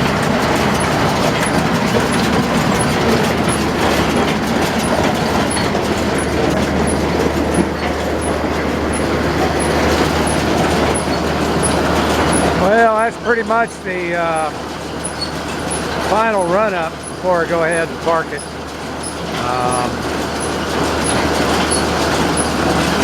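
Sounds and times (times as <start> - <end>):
baler mechanical clatter: 0.0 - 23.0.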